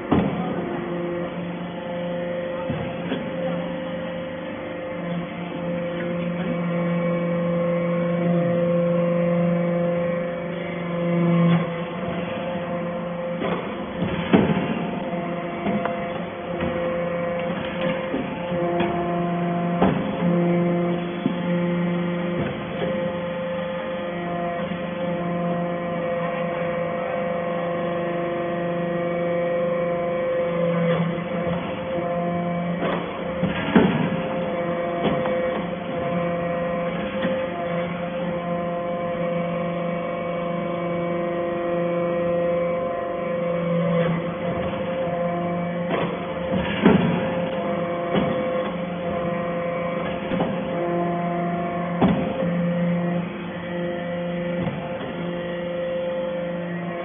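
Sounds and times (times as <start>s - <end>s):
hydraulic baler humming: 0.0s - 57.0s.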